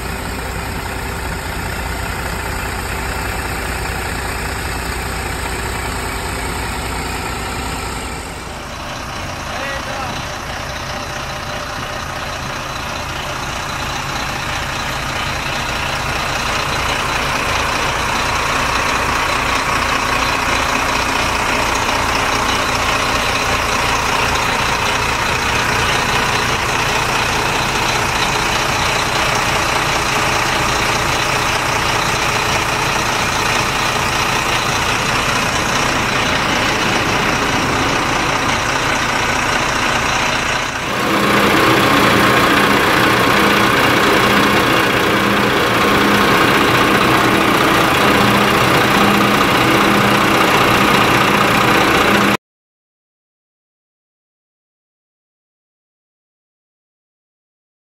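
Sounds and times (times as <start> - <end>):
diesel bus engine idling: 0.0 - 52.4.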